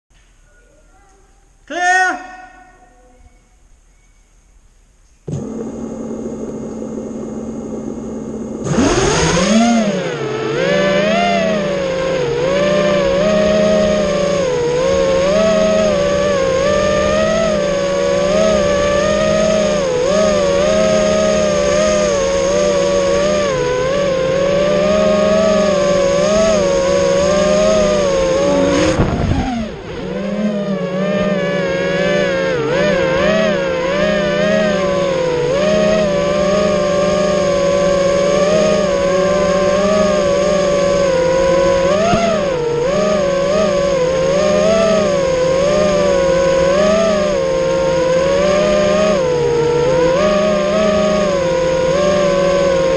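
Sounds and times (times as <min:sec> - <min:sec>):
drone motors whining: 0:02.9 - 0:52.9.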